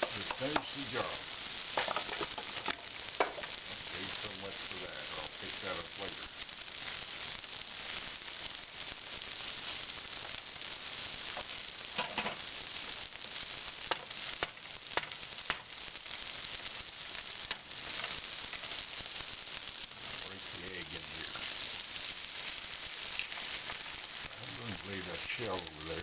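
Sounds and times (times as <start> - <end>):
food sizzling in a skillet: 0.0 - 26.0.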